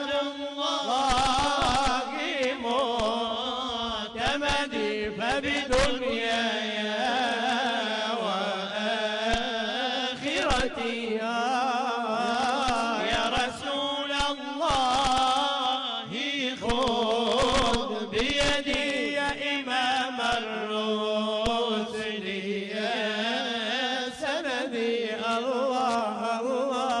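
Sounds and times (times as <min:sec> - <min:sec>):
person chanting: 0:00.0 - 0:27.0.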